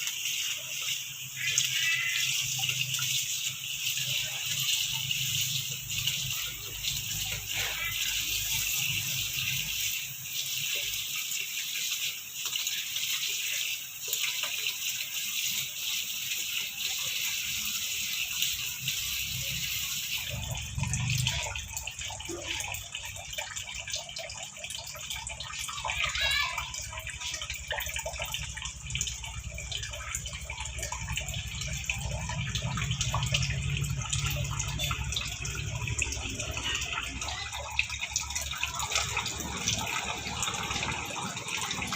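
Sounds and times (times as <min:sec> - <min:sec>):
tap water running into sink: 0:00.0 - 0:41.9.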